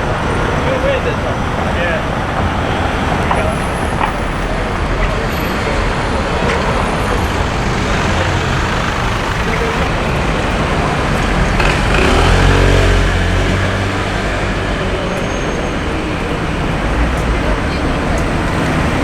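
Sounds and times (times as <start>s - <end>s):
city street traffic: 0.0s - 19.0s
vehicle engine passing close: 2.6s - 19.0s.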